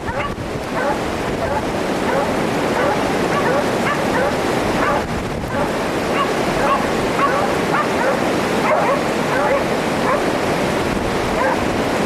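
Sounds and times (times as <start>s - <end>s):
dogs barking: 0.0s - 10.4s, 11.3s - 11.7s
wind noise on microphone: 0.0s - 12.0s.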